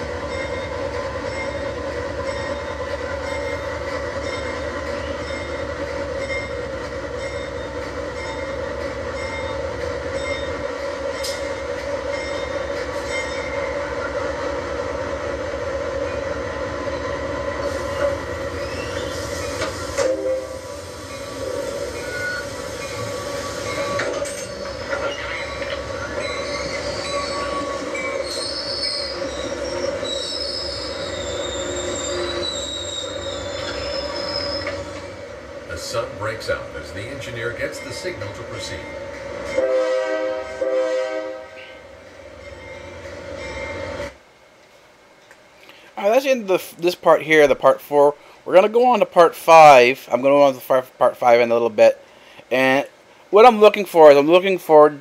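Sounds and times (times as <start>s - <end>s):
train drone: 0.0s - 49.8s.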